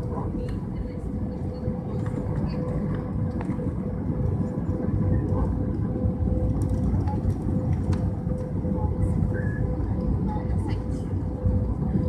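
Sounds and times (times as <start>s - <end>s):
faint constant hum: 0.0s - 12.0s
jet engine cabin rumble: 0.0s - 12.0s.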